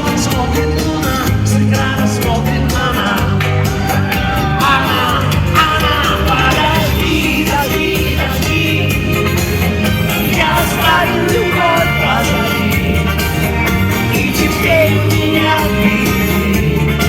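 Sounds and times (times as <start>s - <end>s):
live pop band music: 0.0s - 17.0s
person singing: 0.0s - 17.0s.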